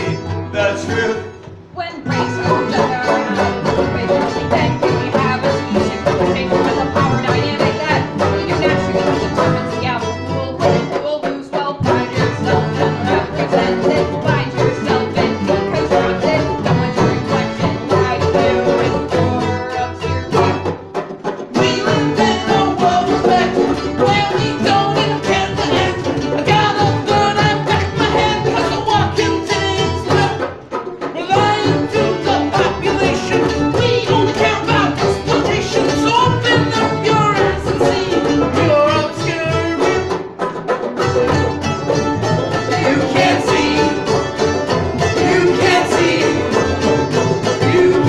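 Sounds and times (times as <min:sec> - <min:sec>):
bass: 0:00.0 - 0:20.8, 0:21.5 - 0:30.6, 0:31.2 - 0:48.0
person singing: 0:00.0 - 0:20.8, 0:21.5 - 0:40.2, 0:41.1 - 0:48.0
accordion: 0:00.0 - 0:48.0
strummed acoustic guitar: 0:00.0 - 0:48.0.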